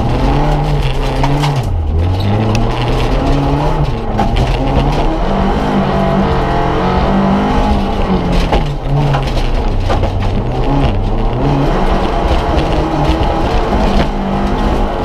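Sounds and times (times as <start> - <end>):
gravel rattling against car: 0.0 - 15.0
rally car engine revving: 0.0 - 15.0.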